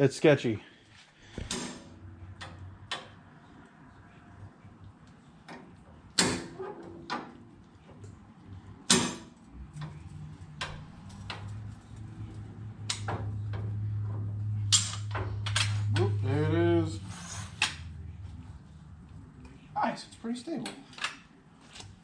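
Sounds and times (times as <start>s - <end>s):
low steady hum: 0.6s - 21.0s.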